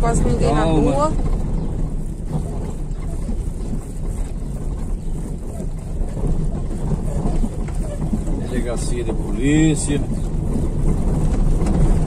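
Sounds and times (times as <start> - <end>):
engine and tyres rumbling on paving: 0.0 - 12.0
wind buffeting microphone: 0.0 - 12.0.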